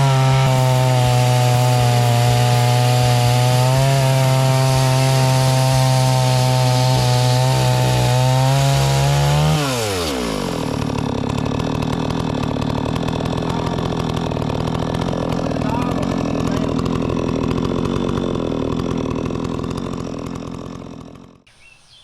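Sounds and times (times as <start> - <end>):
chainsaw ripping a log: 0.0 - 21.8.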